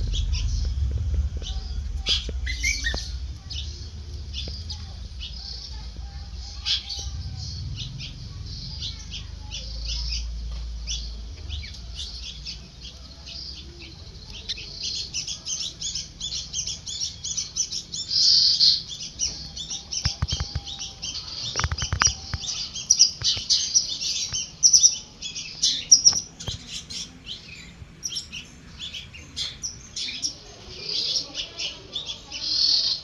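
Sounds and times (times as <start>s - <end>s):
nestling birds peeping: 0.0s - 33.0s.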